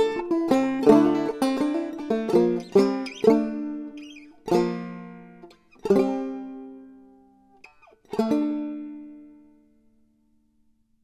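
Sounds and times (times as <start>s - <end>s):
banjo chords ringing: 0.0s - 9.9s.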